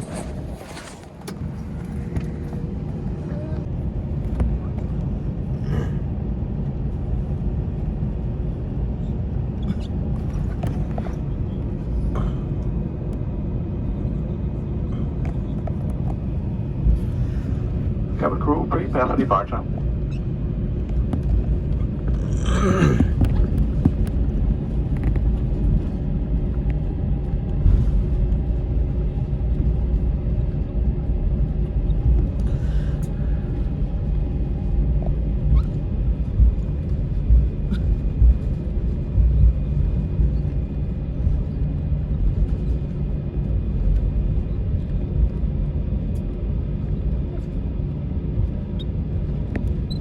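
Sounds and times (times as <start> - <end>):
faint steady engine tones: 0.0 - 50.0
jet engine rumble in cabin: 0.0 - 50.0.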